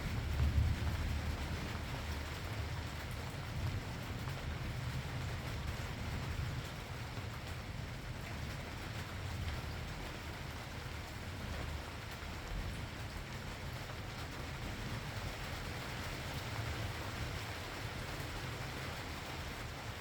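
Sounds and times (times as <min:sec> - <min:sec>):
raindrops ticking: 0:00.0 - 0:20.0
steady rain hiss: 0:00.0 - 0:20.0.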